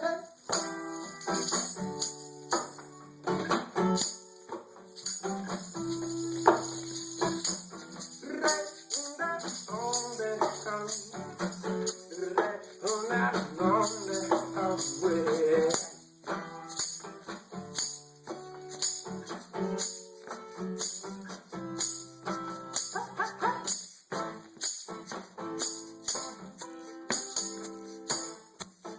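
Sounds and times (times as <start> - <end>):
tambourine jingling: 0.0 - 28.9.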